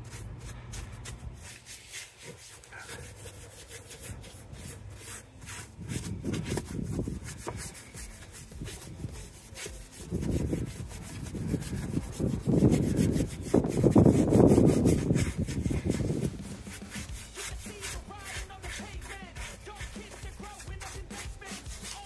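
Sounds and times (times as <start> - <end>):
brush scrubbing plastic: 0.0 - 22.0.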